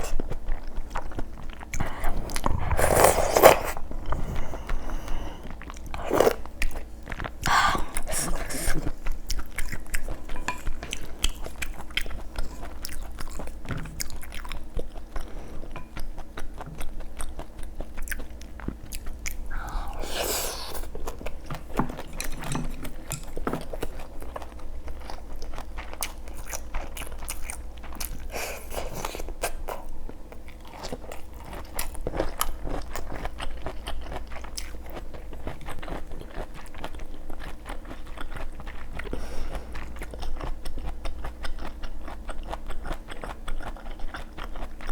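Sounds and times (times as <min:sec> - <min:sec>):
person chewing and crunching food: 0:00.0 - 0:44.9.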